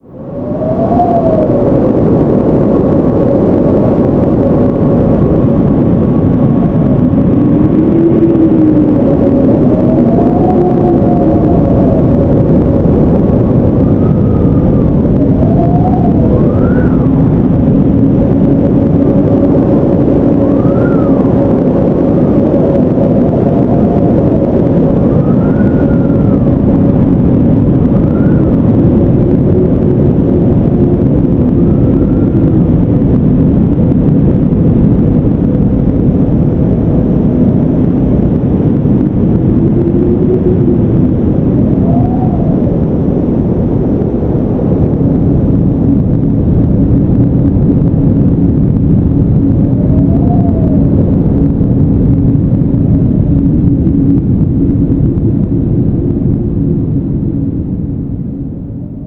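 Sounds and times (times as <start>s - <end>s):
faint wind whistling: 0.0s - 59.0s
strong wind blowing: 0.0s - 59.0s.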